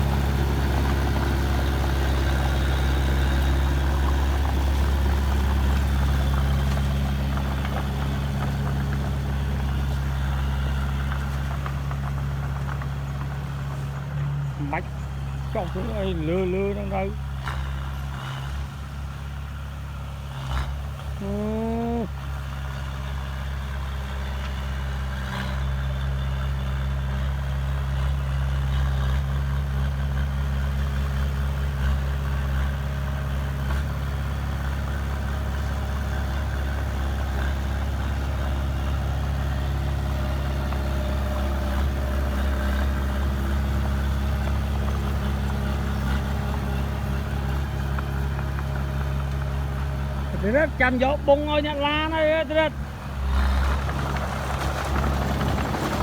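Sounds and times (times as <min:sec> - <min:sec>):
heavy diesel engine droning: 0:00.0 - 0:56.0.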